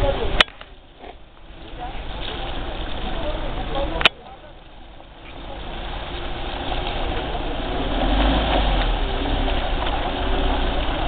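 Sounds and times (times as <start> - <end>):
suv engine running: 0.0 - 11.0.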